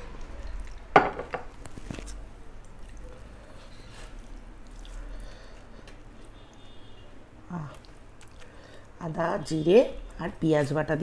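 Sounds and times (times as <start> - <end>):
wet eating sounds: 0.0 - 11.0.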